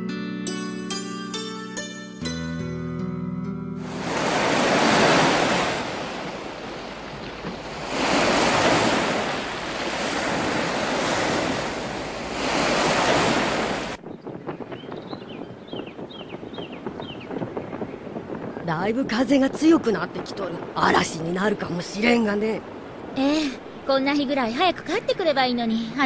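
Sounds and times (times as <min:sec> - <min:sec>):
strong wind gusts: 0:03.8 - 0:25.7.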